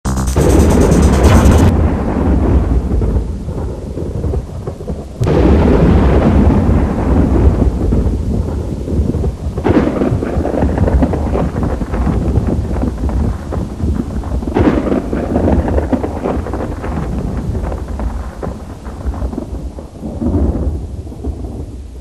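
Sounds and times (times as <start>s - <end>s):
sharp thunderclap: 0.1s - 21.8s
low rumble with rain: 1.4s - 22.0s.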